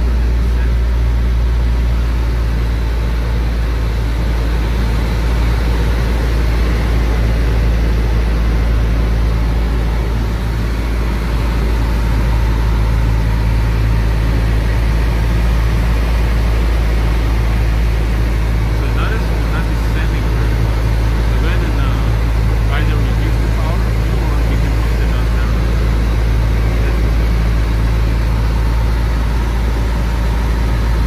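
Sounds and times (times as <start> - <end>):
airplane engine drone: 0.0 - 31.0.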